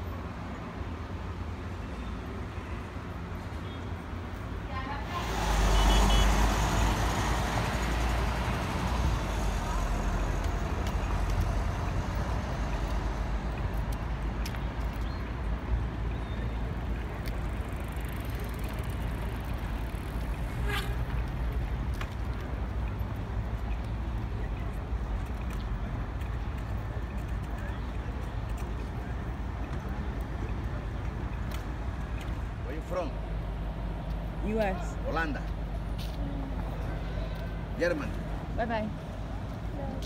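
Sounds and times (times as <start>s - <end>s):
traffic noise rumble: 0.0s - 40.0s.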